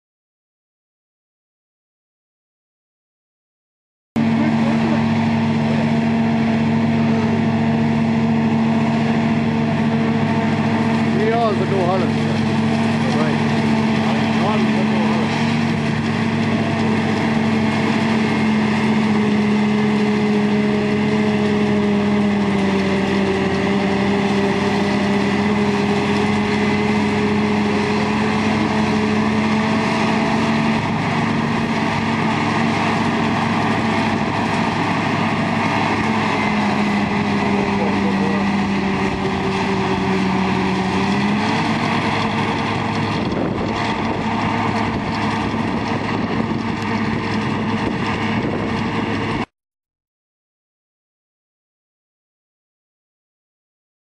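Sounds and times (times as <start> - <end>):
diesel engine running: 4.2 - 49.5.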